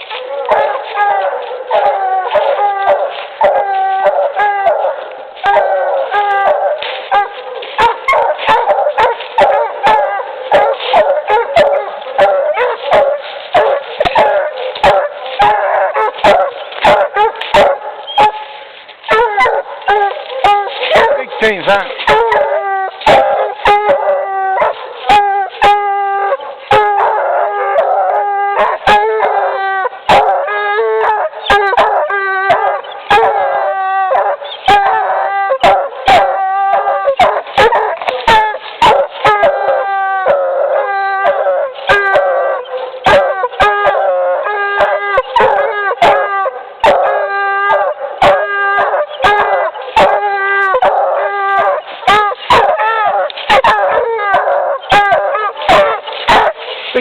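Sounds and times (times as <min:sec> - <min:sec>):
dogs baying: 0:00.0 - 0:57.0.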